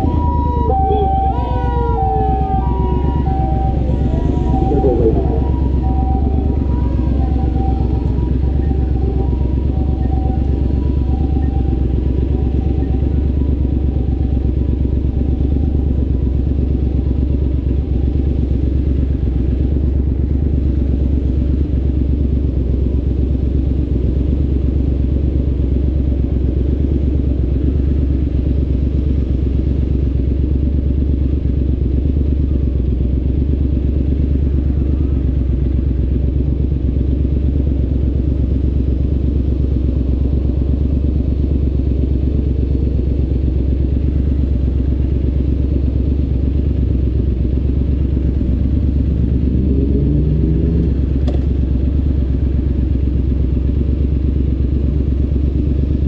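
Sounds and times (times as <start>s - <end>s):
motorcycle engine idling: 0.0s - 49.8s, 50.4s - 56.0s.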